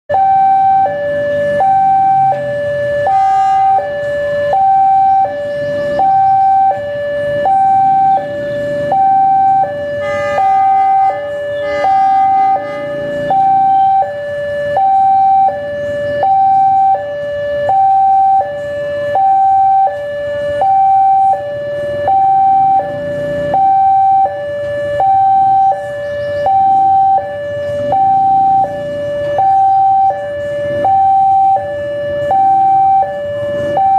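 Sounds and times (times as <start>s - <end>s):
two-tone siren: 0.1s - 33.9s.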